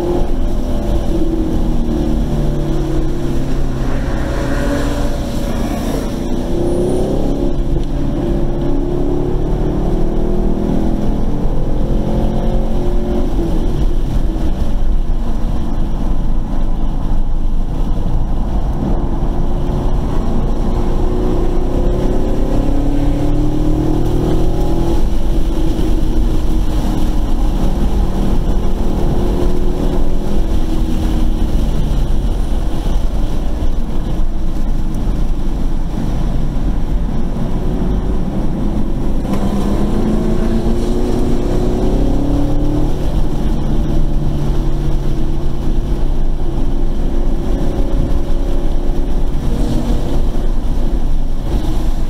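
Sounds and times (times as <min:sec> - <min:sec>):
car engine accelerating: 0:00.0 - 0:52.0
wind and road noise: 0:00.0 - 0:52.0.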